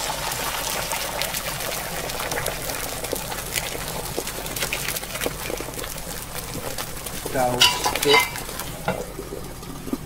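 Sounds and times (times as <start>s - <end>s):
egg sizzling in a frying pan: 0.0s - 10.0s.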